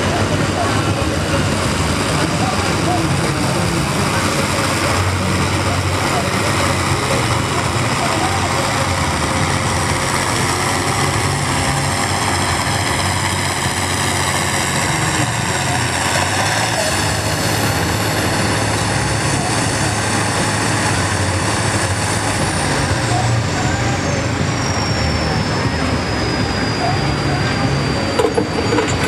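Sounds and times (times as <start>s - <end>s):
high whine falling in pitch: 0.0s - 29.0s
tractor diesel engine droning: 0.0s - 29.0s.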